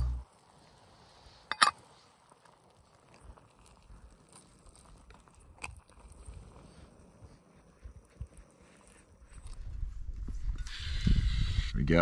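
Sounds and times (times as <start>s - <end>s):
pot bubbling at a boil: 0.0s - 10.6s.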